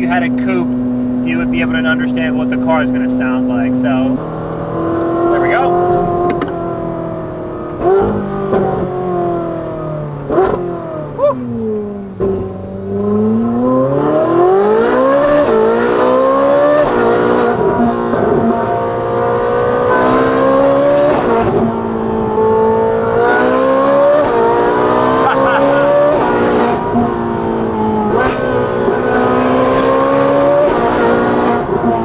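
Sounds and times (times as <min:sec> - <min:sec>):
sports car engine revving: 0:00.0 - 0:32.0.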